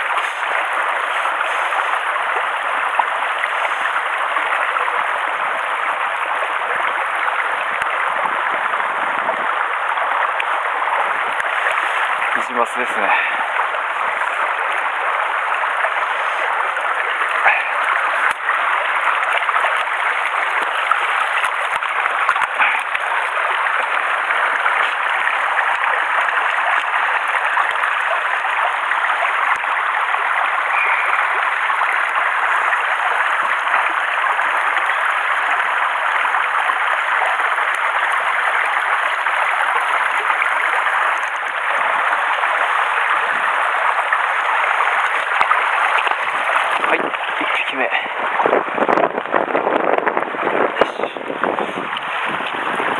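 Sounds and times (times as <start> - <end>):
stream running over rocks: 0.0 - 52.9.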